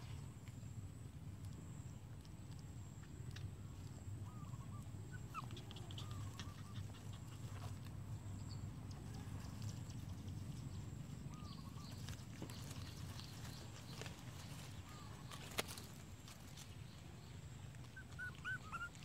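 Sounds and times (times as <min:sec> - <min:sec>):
low outdoor rumble: 0:00.0 - 0:19.0
puppies licking and chewing: 0:00.0 - 0:19.0.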